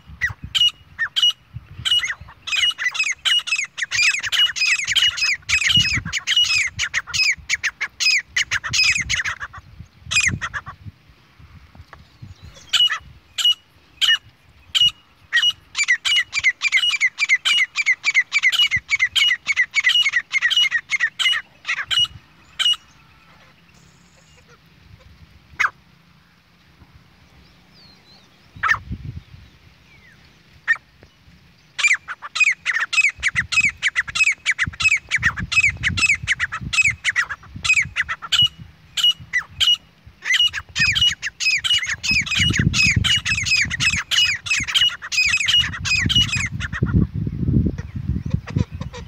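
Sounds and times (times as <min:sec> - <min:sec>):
bird calling: 0:00.0 - 0:10.9, 0:11.9 - 0:49.0.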